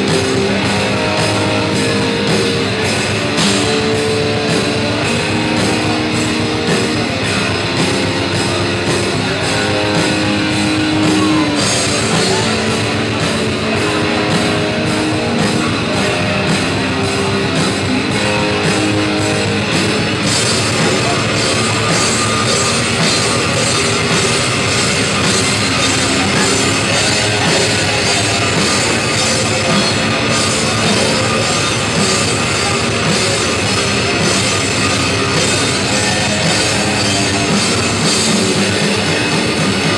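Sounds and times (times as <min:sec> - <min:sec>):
distorted guitars: 0:00.0 - 0:39.9
drums and cymbals: 0:00.0 - 0:39.9.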